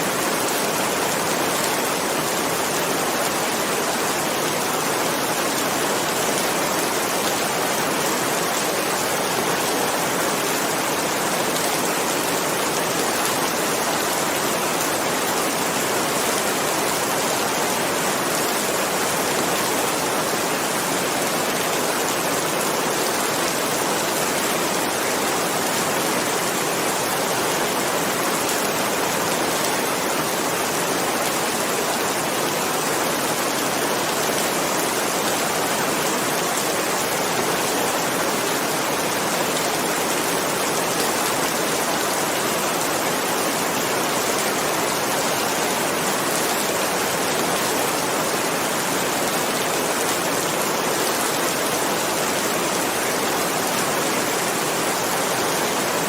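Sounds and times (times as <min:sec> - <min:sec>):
steady dense rain: 0:00.0 - 0:56.0.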